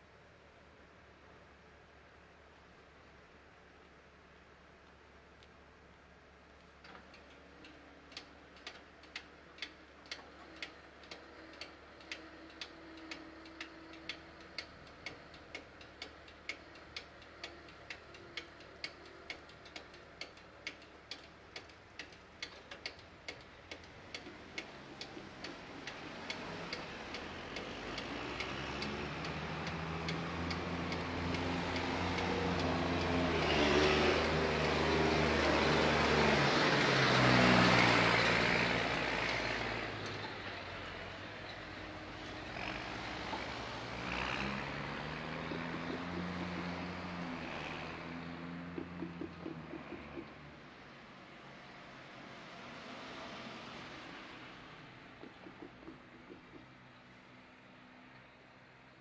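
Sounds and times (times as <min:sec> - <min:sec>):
road traffic moving off: 0:06.1 - 0:59.0
diesel engine approaching: 0:07.1 - 0:59.0.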